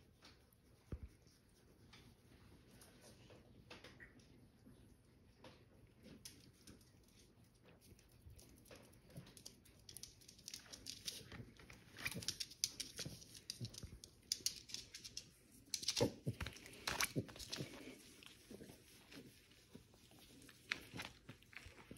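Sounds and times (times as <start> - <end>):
cat and puppy play-fighting: 0.0 - 21.9.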